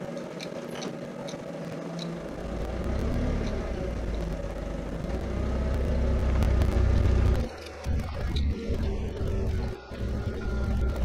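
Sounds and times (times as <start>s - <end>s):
forklift engine rumbling: 0.6s - 11.0s.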